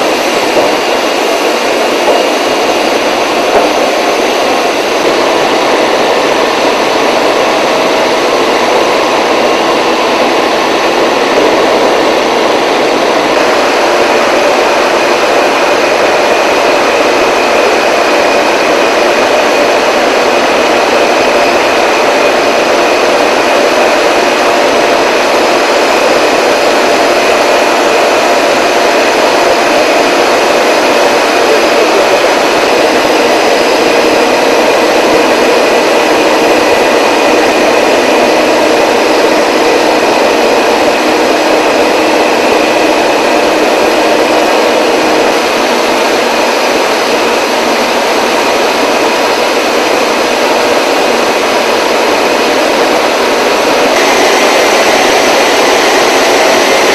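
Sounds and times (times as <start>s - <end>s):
rolling mill machine noise: 0.0s - 56.9s.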